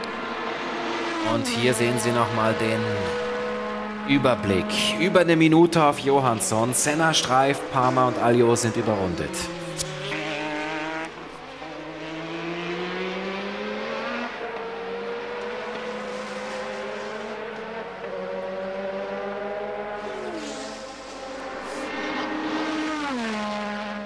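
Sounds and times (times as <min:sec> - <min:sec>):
racing car engine upshifting: 0:00.0 - 0:24.0.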